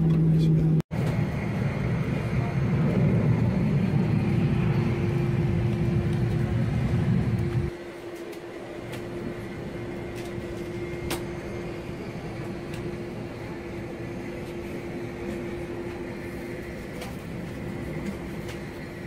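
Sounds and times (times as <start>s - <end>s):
ground machinery humming: 0.0s - 19.0s.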